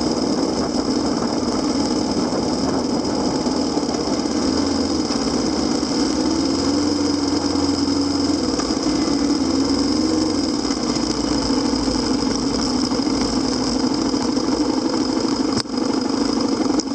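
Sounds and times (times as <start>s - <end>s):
motorcycle engine running at low revs: 0.0s - 16.9s.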